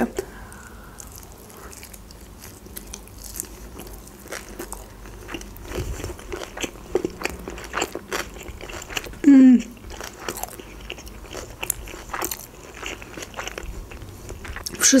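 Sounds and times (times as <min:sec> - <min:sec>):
wet mouth chewing sounds: 0:00.0 - 0:14.8.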